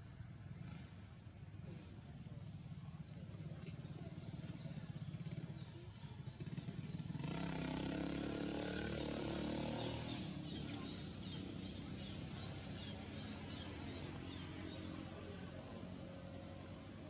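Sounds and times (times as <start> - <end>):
motor engine running: 0.6 - 17.0.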